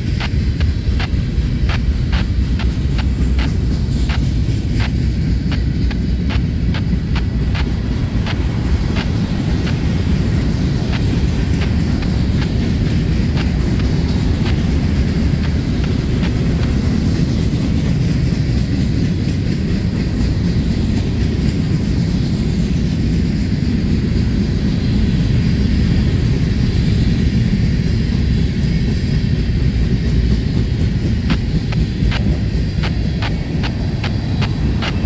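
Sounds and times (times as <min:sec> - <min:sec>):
freight cars rumbling on rails: 0:00.0 - 0:35.0.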